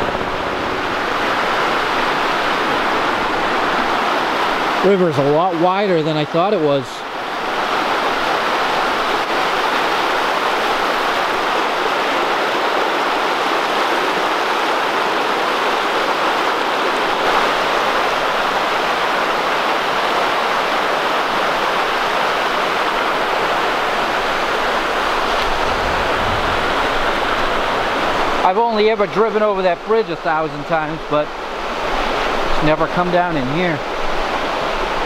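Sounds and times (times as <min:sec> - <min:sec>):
brook rushing over rapids: 0:00.0 - 0:35.0.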